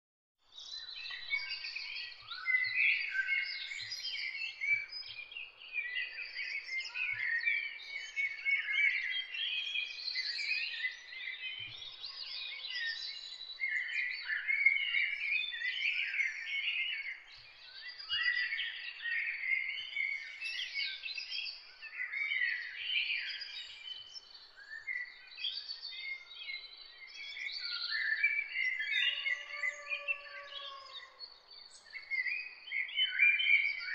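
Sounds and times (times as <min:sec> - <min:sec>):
small birds chirping: 0:00.4 - 0:33.9.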